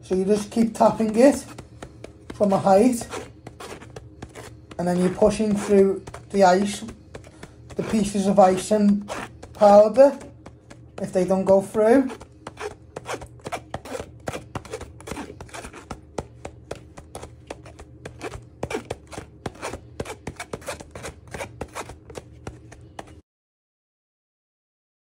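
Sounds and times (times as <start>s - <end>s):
spoon scraping wire sieve: 0.2s - 22.4s.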